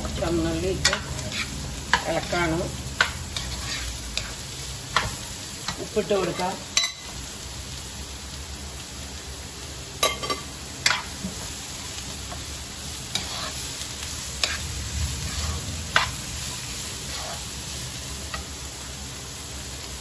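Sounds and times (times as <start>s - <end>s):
shallots sizzling in a pan: 0.0s - 20.0s.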